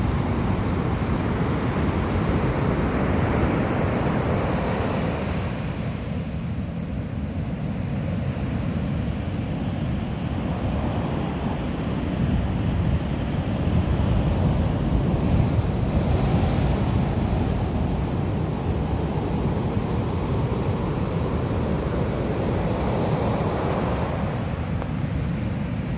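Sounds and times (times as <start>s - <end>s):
waves breaking on beach: 0.0s - 25.9s
wind rumbling on microphone: 0.0s - 25.9s.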